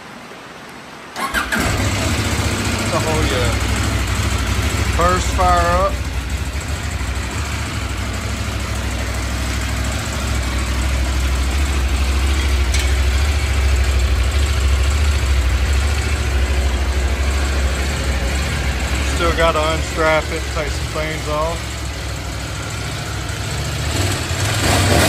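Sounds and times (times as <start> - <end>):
motorcycle engine idling: 1.2 - 24.8.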